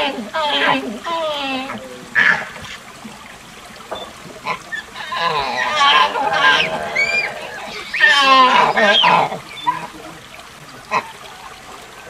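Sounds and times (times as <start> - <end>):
monkey calling: 0.0 - 12.0.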